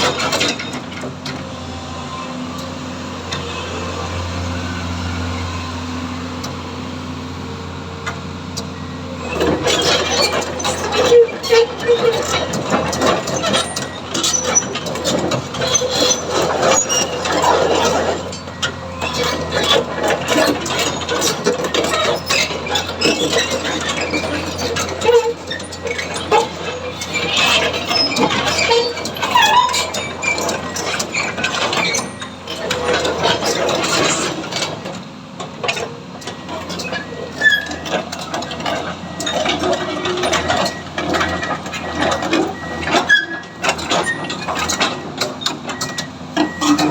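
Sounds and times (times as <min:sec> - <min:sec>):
excavator diesel hum: 0:00.0 - 0:46.9.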